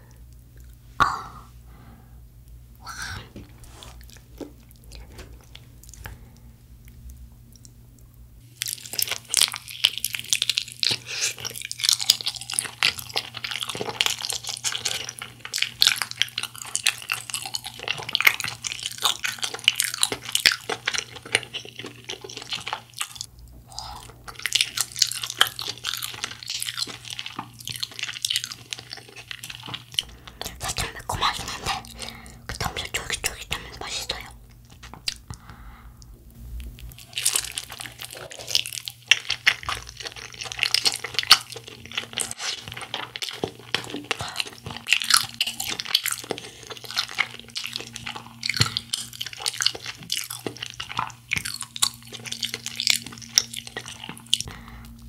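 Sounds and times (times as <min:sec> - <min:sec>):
chewing crunchy fried chicken: 0:08.4 - 0:35.7, 0:36.8 - 0:55.0.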